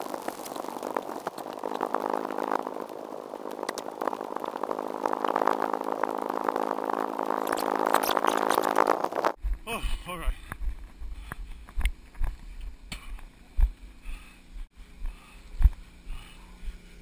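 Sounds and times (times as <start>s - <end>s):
sped-up buzzing hum with ticks: 0.0s - 17.0s.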